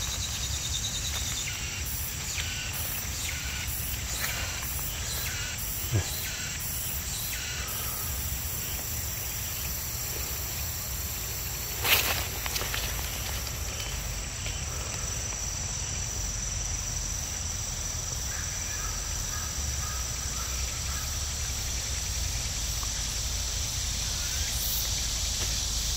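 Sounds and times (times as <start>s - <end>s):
insects chirring: 0.0s - 25.9s.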